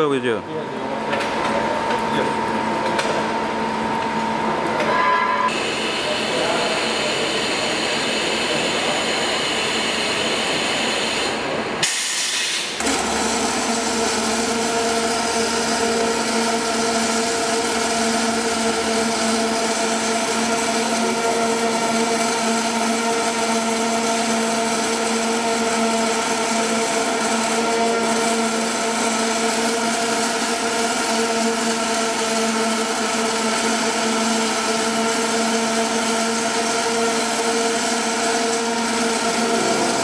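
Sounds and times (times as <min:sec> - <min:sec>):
welding machine noise: 0:01.1 - 0:40.0.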